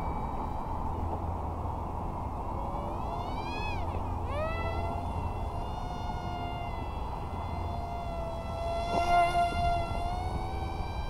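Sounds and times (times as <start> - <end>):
rc plane motor whine: 0.0 - 11.0.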